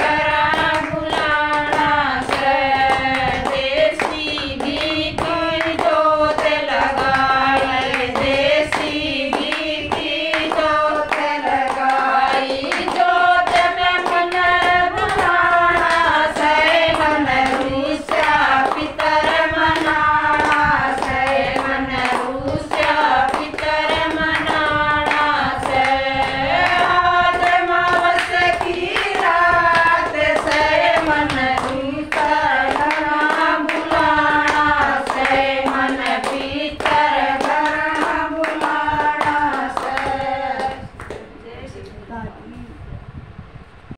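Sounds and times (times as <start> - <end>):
hand-clapping: 0.0 - 41.3
women singing devotional song: 0.0 - 41.4.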